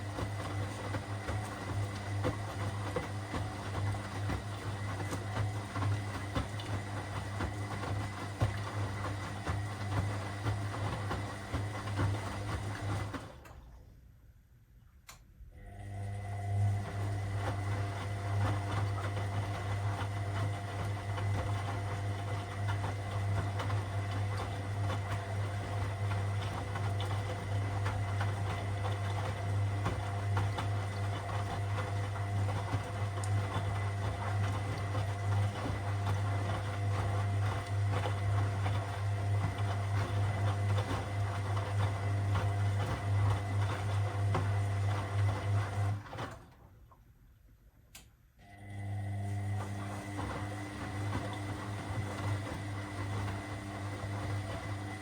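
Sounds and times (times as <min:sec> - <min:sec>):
washing machine motor hum: 0:00.0 - 0:13.8, 0:15.5 - 0:46.9, 0:48.4 - 0:55.0.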